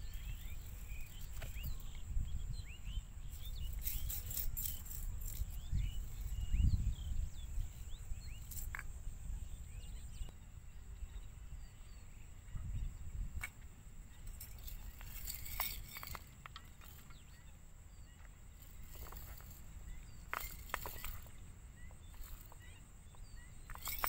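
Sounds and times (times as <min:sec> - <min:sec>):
small birds chirping: 0:00.0 - 0:24.0
wind rumbling on microphone: 0:00.0 - 0:24.0.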